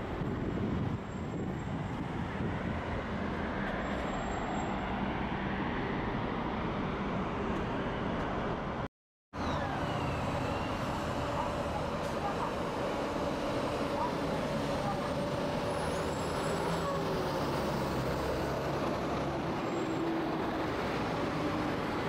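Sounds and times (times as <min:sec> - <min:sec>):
bus and traffic rumble: 0:00.0 - 0:22.0.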